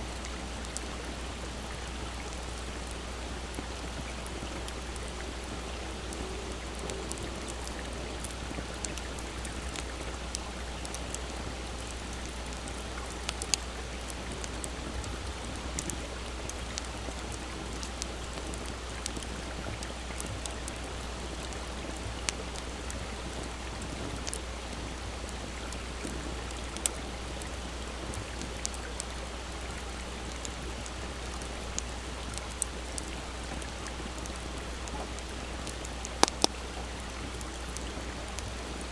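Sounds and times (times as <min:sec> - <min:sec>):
small stream rushing: 0:00.0 - 0:38.9
campfire crackling and popping: 0:00.2 - 0:38.9.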